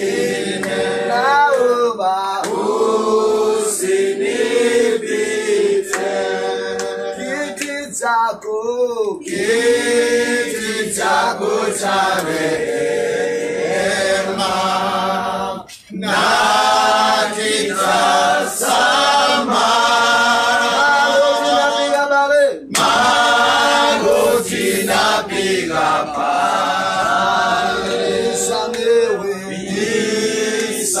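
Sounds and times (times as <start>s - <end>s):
group singing unaccompanied: 0.0s - 8.4s, 9.2s - 31.0s.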